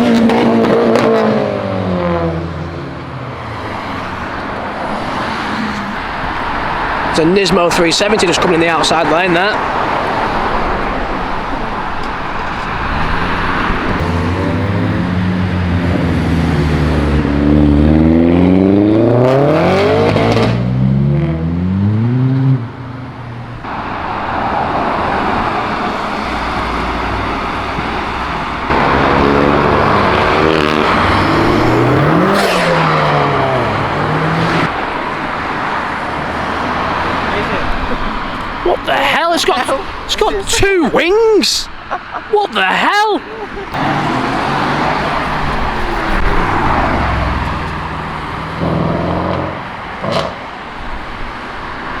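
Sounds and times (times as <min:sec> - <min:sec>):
cars driving past: 0:00.0 - 0:52.0.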